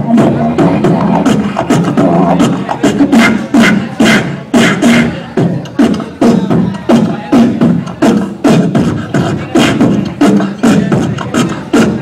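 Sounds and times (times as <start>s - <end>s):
beatboxing snare-like hits: 0.0s - 12.0s.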